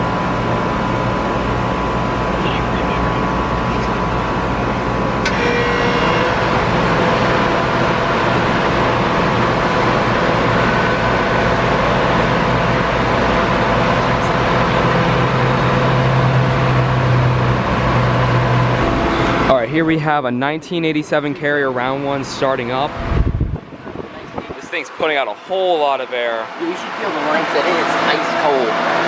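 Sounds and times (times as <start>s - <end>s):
air conditioner fan rushing: 0.0s - 29.0s.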